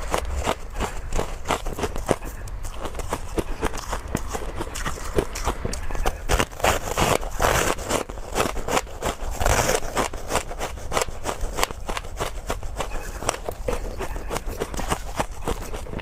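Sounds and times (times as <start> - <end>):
ice being chewed with crunches: 0.0 - 16.0.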